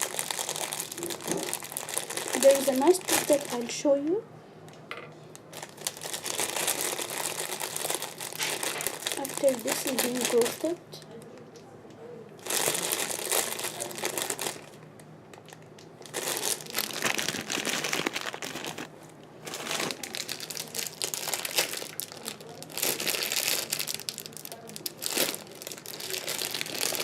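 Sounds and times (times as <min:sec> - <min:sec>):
crinkling handling noise: 0:00.0 - 0:04.2, 0:04.8 - 0:27.0.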